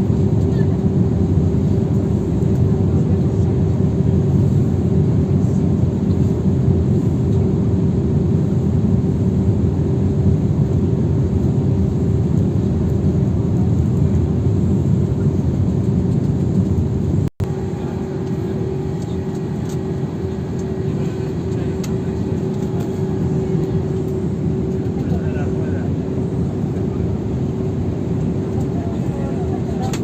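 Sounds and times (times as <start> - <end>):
jet airliner cabin roar: 0.0 - 30.0.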